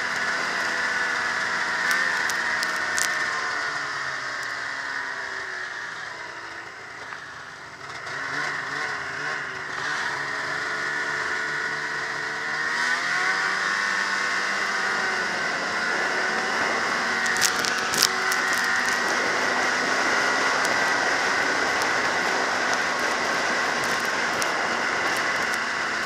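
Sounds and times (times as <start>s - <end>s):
snowmobile engine running: 0.0s - 26.0s.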